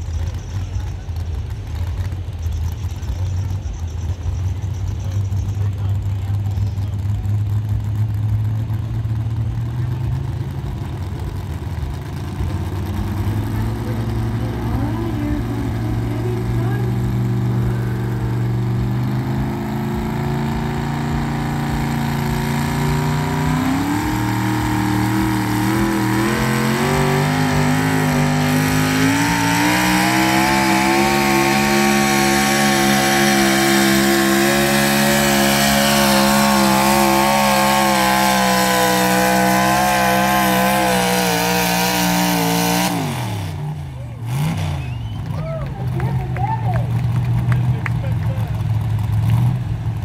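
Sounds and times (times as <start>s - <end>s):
tractor engine working hard: 0.0s - 50.0s.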